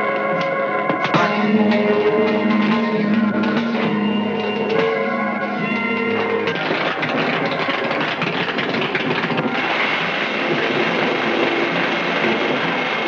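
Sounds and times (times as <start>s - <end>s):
electrical sparks crackling: 0.0s - 13.0s.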